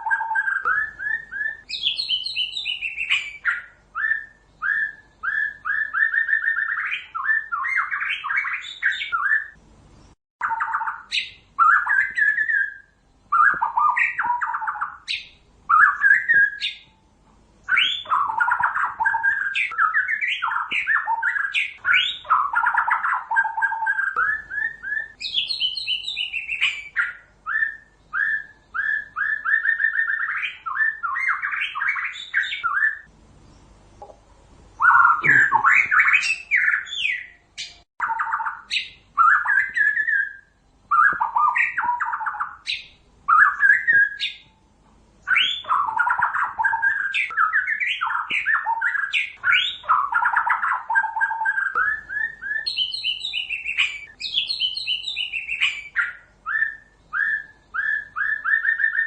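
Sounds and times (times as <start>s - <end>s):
bird singing whistled notes: 0.0s - 17.0s, 17.6s - 33.7s, 34.8s - 44.6s, 45.2s - 59.0s.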